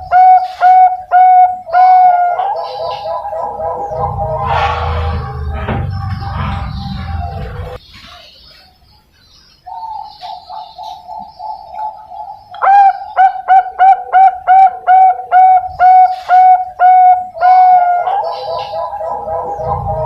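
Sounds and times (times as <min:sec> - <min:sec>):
dove cooing: 0:00.0 - 0:07.8, 0:09.7 - 0:20.0.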